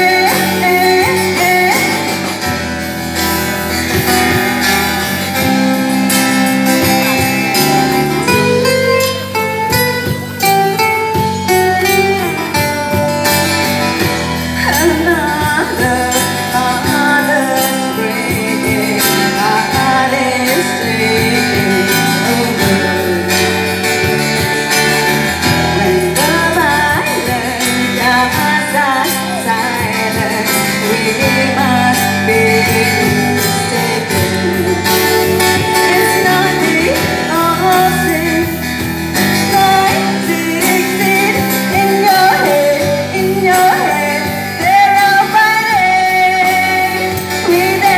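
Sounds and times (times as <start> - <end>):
amplified acoustic guitar: 0.0 - 47.9
drums keeping a beat: 0.0 - 47.9
woman singing into microphone: 0.0 - 47.9.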